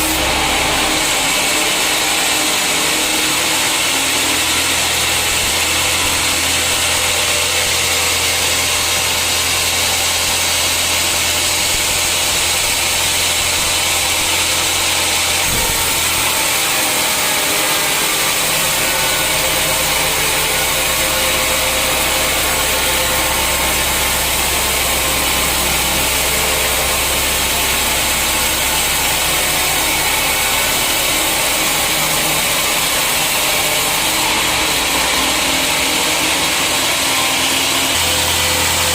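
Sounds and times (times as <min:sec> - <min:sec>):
low motor hum: 0:00.0 - 0:38.9
sawmill saw running: 0:00.0 - 0:38.9.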